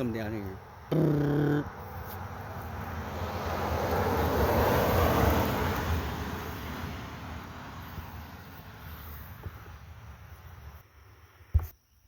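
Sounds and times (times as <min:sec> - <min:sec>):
vehicle passing on road: 0:00.0 - 0:11.5.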